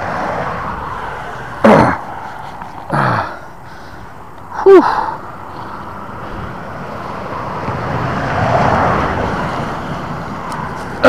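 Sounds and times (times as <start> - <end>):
vehicle passing on a bridge: 0.0 - 11.0.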